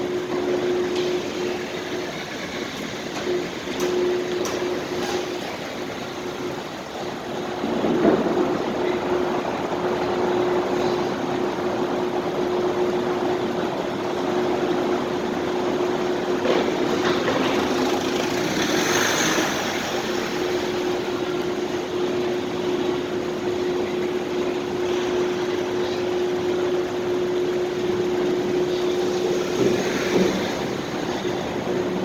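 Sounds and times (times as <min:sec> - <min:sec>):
constant hum: 0:00.0 - 0:32.0
rumble of vehicles and machinery: 0:00.0 - 0:32.0.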